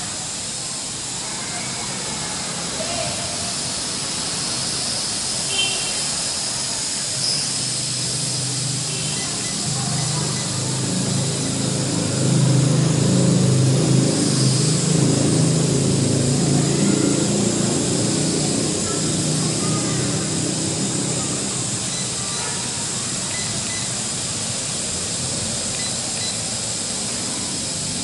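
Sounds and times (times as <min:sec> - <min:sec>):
toy drone propellers buzzing: 0:00.0 - 0:28.0.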